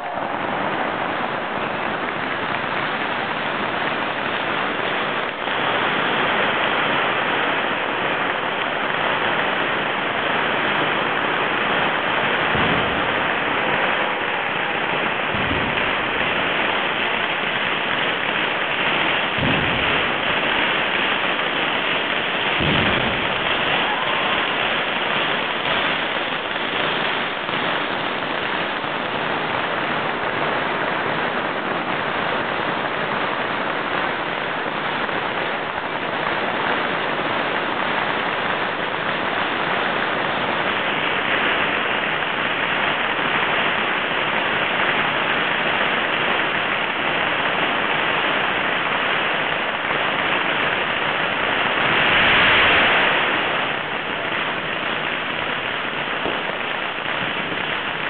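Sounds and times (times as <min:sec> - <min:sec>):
fireworks crackling and bursting: 0:00.0 - 0:58.0.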